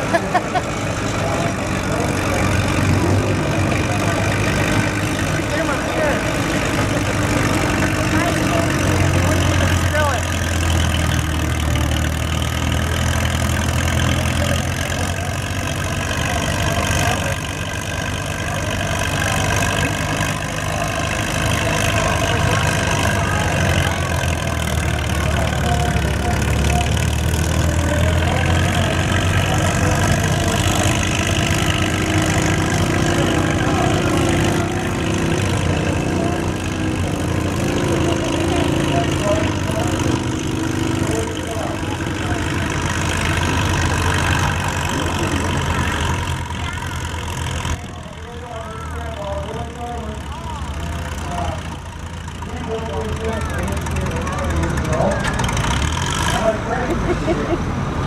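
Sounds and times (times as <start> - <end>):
crawler tractor engine under load: 0.0 - 58.0.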